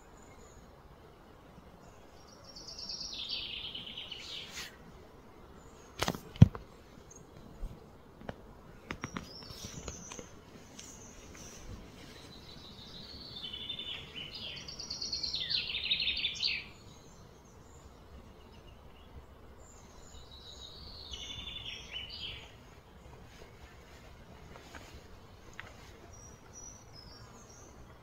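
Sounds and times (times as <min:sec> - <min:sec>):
low outdoor hum: 0:00.0 - 0:28.0
songbird chirping: 0:00.0 - 0:28.0.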